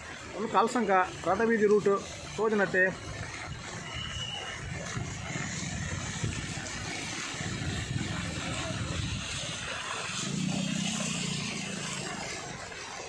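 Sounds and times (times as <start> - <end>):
heavy rain and water hiss: 0.0 - 13.0.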